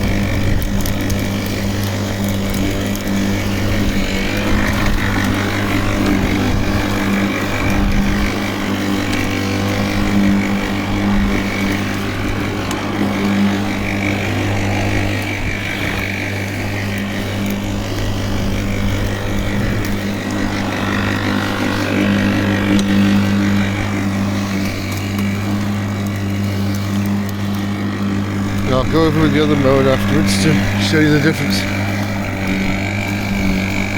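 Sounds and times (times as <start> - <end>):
electric lawnmower cutting grass: 0.0 - 33.9.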